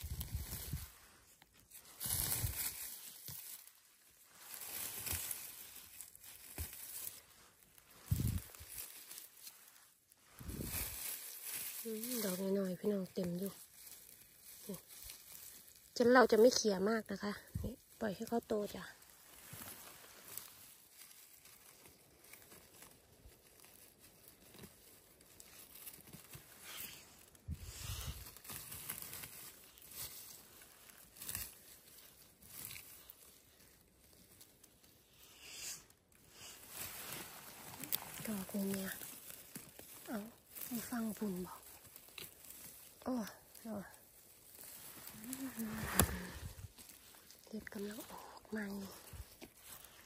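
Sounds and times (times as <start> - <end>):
rustling and crunching vegetation: 0.0 - 50.0.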